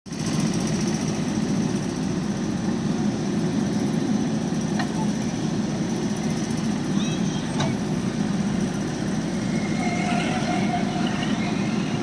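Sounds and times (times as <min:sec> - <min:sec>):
diesel engine droning: 0:00.2 - 0:12.0.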